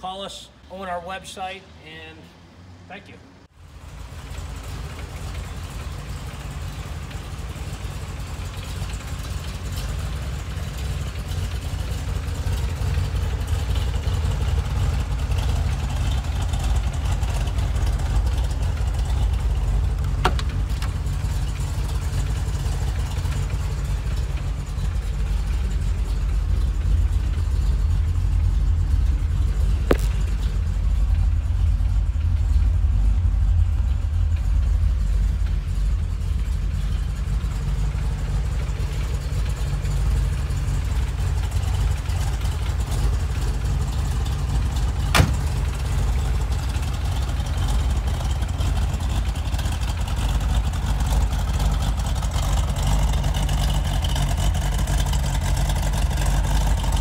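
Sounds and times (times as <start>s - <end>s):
car engine idling: 3.4s - 57.0s.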